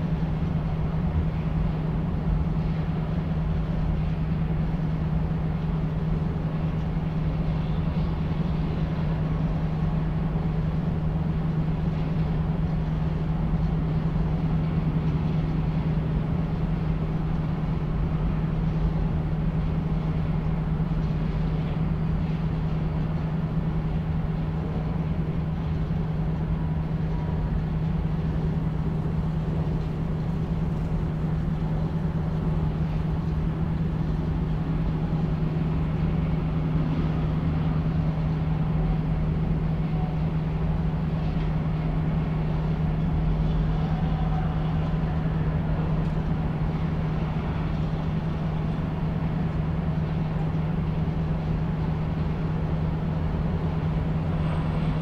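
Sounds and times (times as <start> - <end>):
constant rushing noise: 0.0 - 55.0
low industrial hum: 0.0 - 55.0.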